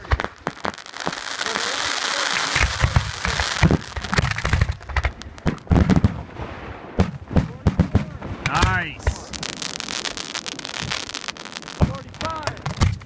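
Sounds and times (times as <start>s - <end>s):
fireworks bangs and booms: 0.0s - 13.0s
fireworks crackling: 0.0s - 13.0s.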